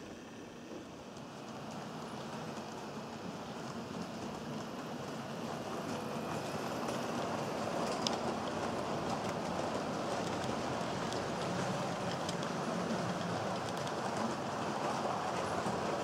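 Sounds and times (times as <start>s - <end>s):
model train rolling on track: 0.0s - 16.0s.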